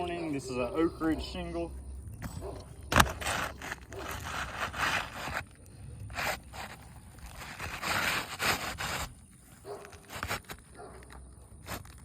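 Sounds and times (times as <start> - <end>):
shingle scraping on gritty shingles: 0.0 - 12.0.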